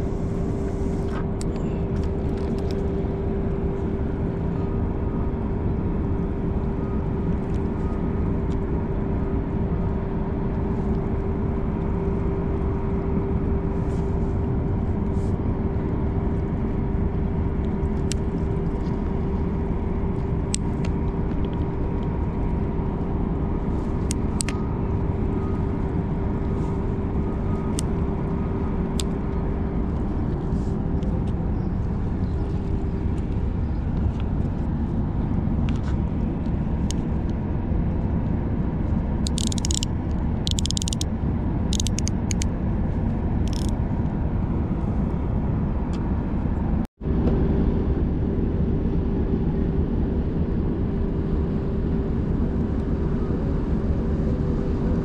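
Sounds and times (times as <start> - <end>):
droning hum: 0.0 - 55.0
low rumble: 0.0 - 55.0.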